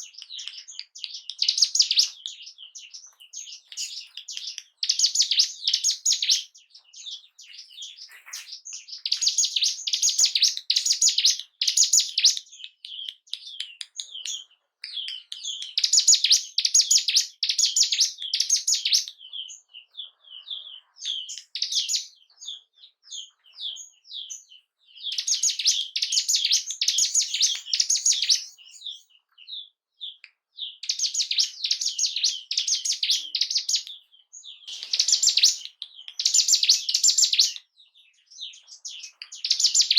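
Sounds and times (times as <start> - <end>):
small bird singing: 0.0 - 39.9.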